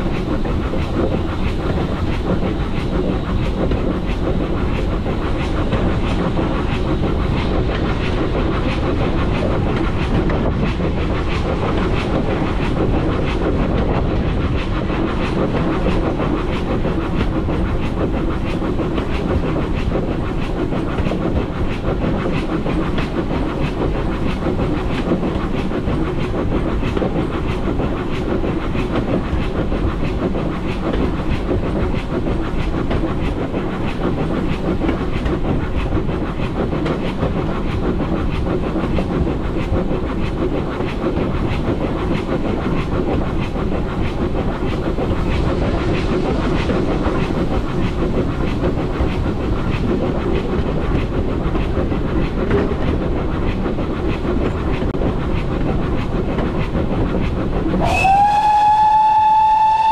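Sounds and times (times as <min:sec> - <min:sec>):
steam train rumble: 0:00.0 - 0:59.9.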